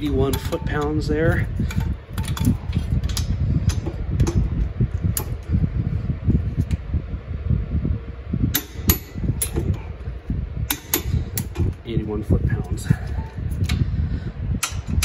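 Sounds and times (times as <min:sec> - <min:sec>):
low fan noise: 0:00.0 - 0:15.0.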